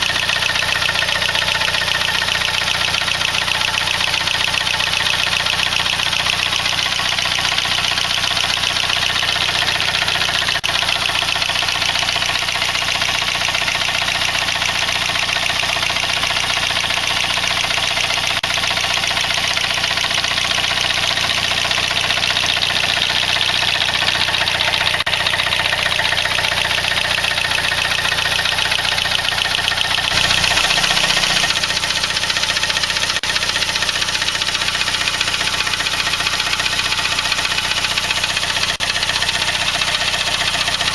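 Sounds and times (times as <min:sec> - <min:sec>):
car engine running with ticking: 0:00.0 - 0:40.9.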